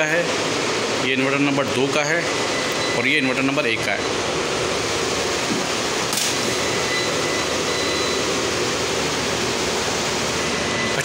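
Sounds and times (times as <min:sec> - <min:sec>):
fan-like rushing noise: 0:00.0 - 0:11.0.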